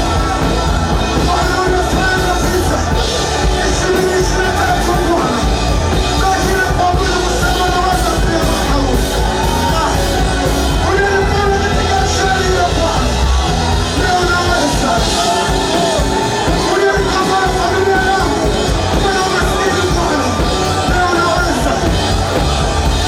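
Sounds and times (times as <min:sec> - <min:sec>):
amplified band with bass: 0:00.0 - 0:23.0
steady drum beat: 0:00.0 - 0:23.0
voices singing: 0:00.0 - 0:23.0.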